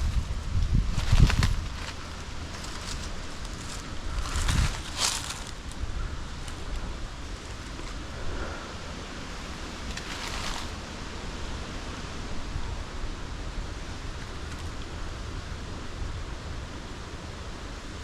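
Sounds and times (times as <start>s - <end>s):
wind buffeting microphone: 0.0s - 17.8s
rustle: 0.0s - 18.0s.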